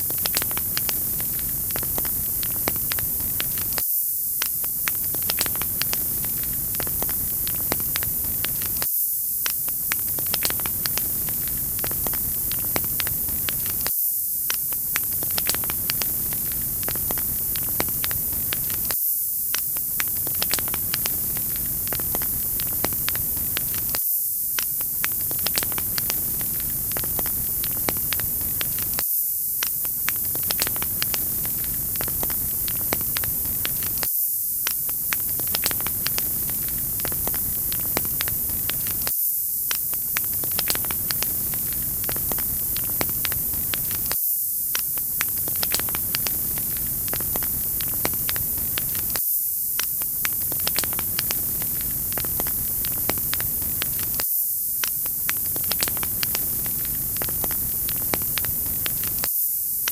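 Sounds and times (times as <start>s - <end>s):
wood fire crackling: 0.0s - 3.8s, 4.4s - 13.9s, 14.5s - 24.0s, 24.6s - 29.0s, 29.6s - 39.1s, 39.7s - 49.2s, 49.8s - 54.2s, 54.9s - 59.3s.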